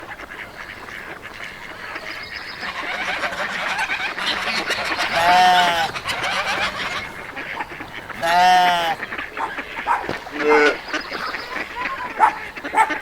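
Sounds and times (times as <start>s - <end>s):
farmyard birds calling: 0.0s - 13.0s
loud drawn-out bird call: 2.0s - 12.9s.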